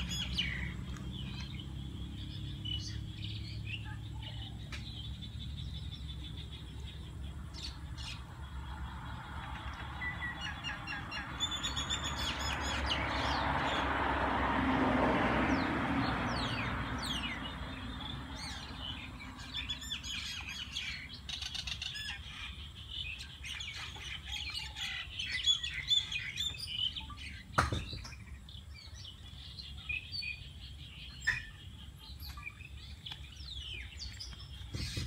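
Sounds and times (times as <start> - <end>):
small birds chirping: 0.0 - 14.0, 15.5 - 35.0.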